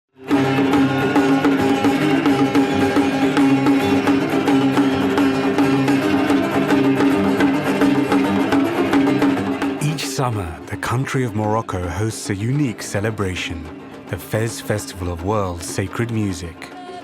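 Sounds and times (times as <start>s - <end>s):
plucked strings: 0.2s - 17.0s
steady held notes: 0.3s - 17.0s.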